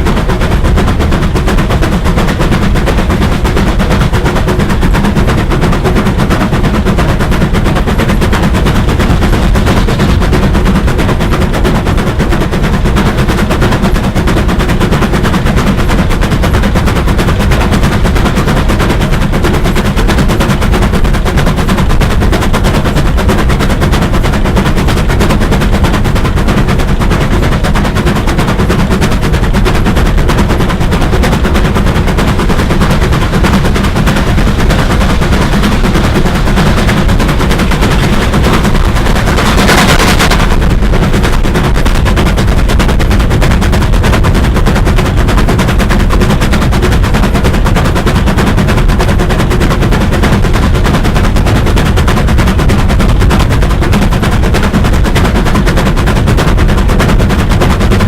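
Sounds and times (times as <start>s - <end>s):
steam locomotive clatter: 0.0s - 58.0s.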